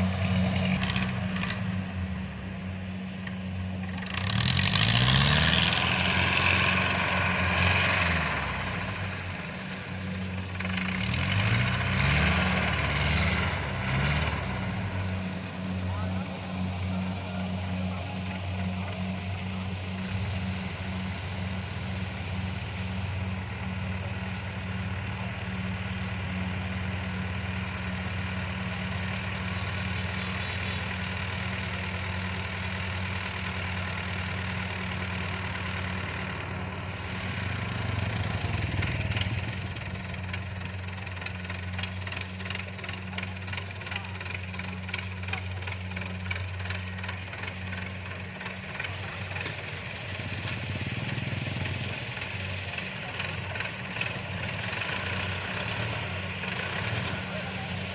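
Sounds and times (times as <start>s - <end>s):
combine harvester diesel engine: 0.0s - 57.9s.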